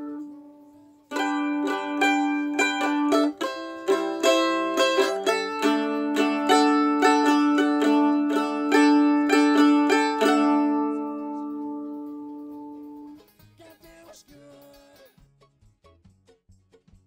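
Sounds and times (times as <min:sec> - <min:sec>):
mandolin strummed in chords: 0:00.0 - 0:17.0.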